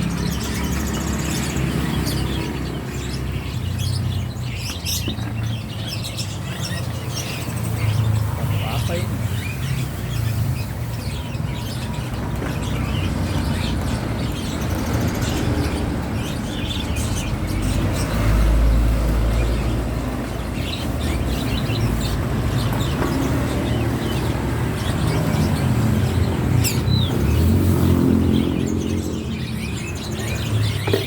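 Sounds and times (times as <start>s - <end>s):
birds chirping and calling: 0.0s - 31.0s.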